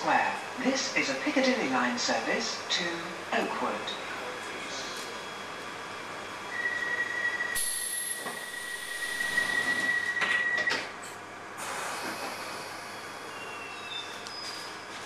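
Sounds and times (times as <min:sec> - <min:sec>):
train carriage humming: 0:00.0 - 0:15.0.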